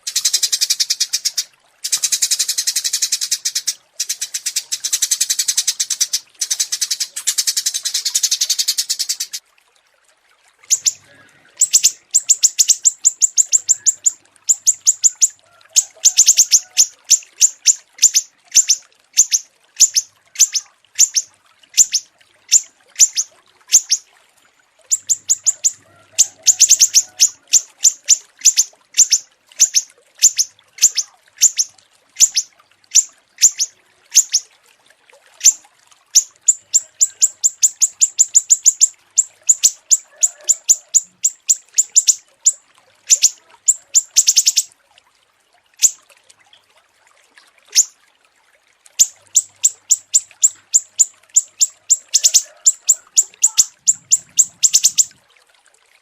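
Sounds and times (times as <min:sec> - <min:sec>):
songbird chirping and trilling: 0:00.0 - 0:09.4, 0:10.6 - 0:24.1, 0:24.9 - 0:34.5, 0:35.4 - 0:35.6, 0:36.2 - 0:44.7, 0:45.8 - 0:46.0, 0:47.7 - 0:48.0, 0:49.0 - 0:55.2.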